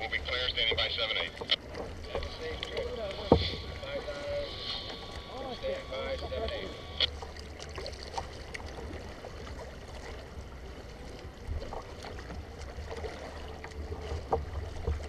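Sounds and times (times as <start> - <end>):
water lapping against plastic hull: 0.0 - 15.0.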